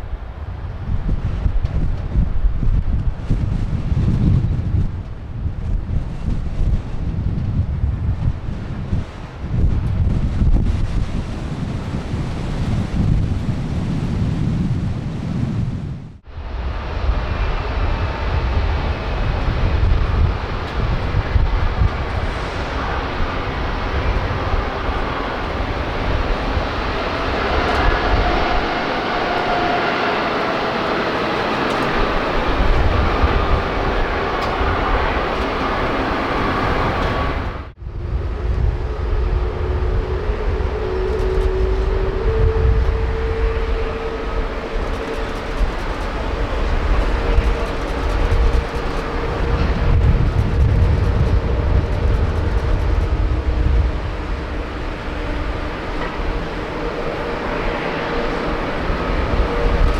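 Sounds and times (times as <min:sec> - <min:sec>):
jet engine rumble: 0:00.0 - 0:59.9
wind buffeting on microphone: 0:00.0 - 0:59.9.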